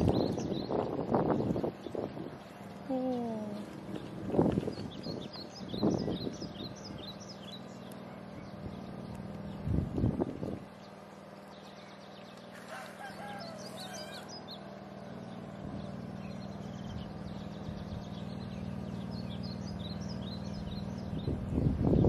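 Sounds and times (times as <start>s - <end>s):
low mechanical hum: 0.0s - 22.0s
small birds chirping: 0.0s - 22.0s.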